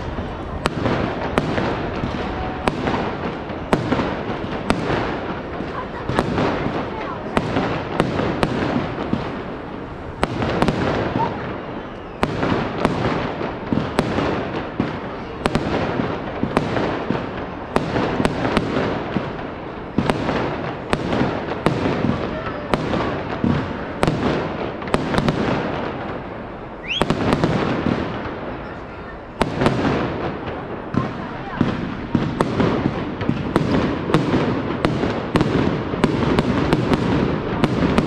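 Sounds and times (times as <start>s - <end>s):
fireworks bangs: 0.0s - 38.0s
fireworks din: 0.0s - 38.0s.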